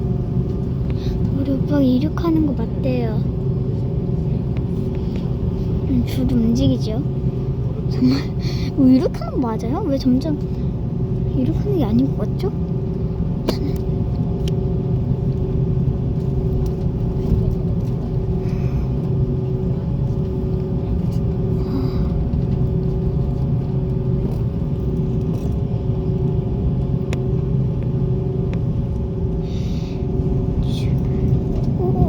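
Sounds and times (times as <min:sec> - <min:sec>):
constant hum: 0:00.0 - 0:32.0
jet engines rumbling: 0:00.0 - 0:32.0.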